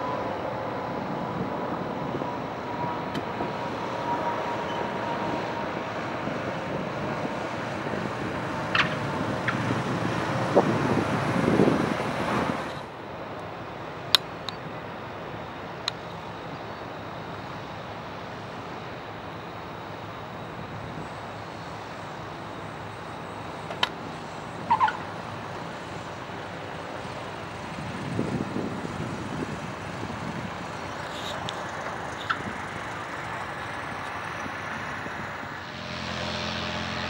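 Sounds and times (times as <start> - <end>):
distant traffic: 0.0 - 37.0
low engine rumble: 0.0 - 37.0
wind: 0.0 - 37.0.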